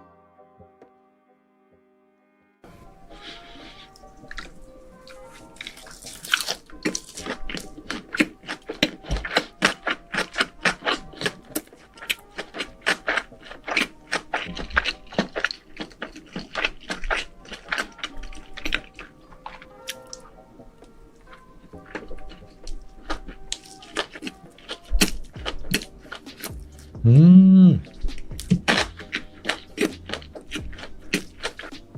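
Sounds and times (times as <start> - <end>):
faint background music: 0.0 - 31.9
person chewing crunchy food: 2.8 - 31.9.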